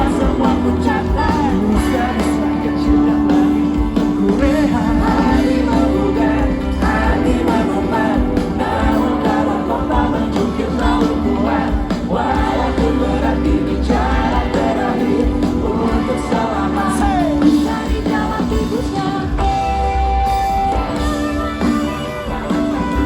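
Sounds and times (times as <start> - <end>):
person singing: 0.0 - 19.9
live band playing: 0.0 - 23.0.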